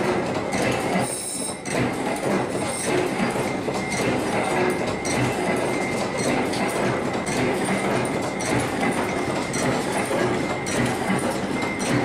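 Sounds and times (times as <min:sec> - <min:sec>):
faint steady machine whine: 0:00.0 - 0:12.0
rapid metallic machine clatter: 0:00.0 - 0:12.0.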